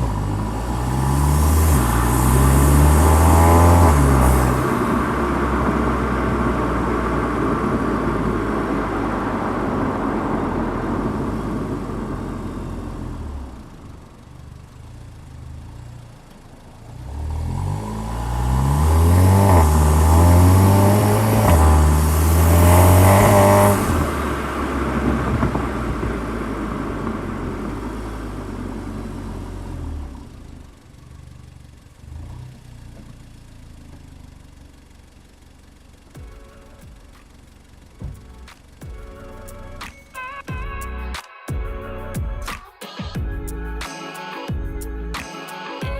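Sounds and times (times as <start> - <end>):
car engine accelerating: 0.0 - 41.2.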